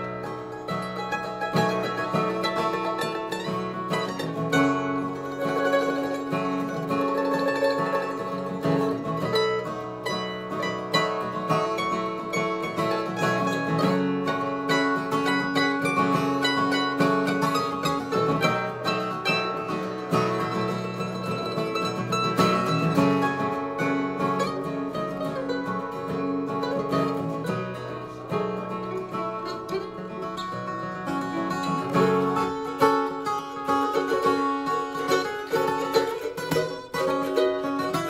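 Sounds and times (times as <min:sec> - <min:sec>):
acoustic guitar picked lead: 0:00.0 - 0:38.0.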